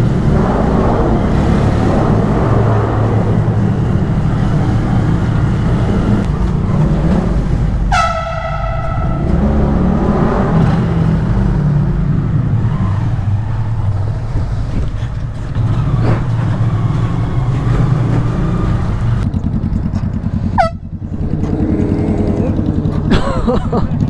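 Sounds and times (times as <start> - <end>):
motorcycle engine running: 0.0 - 12.6, 13.2 - 24.0.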